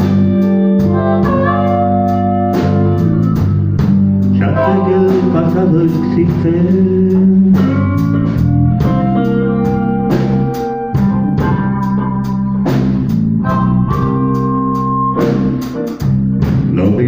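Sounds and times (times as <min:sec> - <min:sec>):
blues band playing: 0:00.0 - 0:17.0
steady drum beat: 0:00.0 - 0:17.0.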